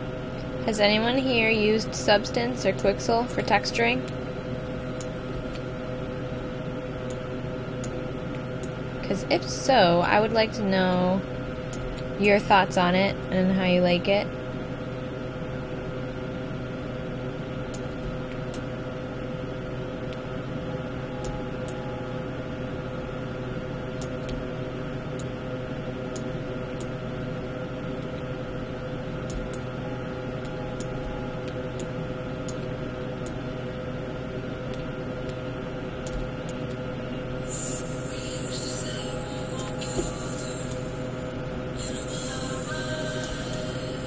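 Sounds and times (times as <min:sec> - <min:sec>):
computer fans humming: 0:00.0 - 0:44.0.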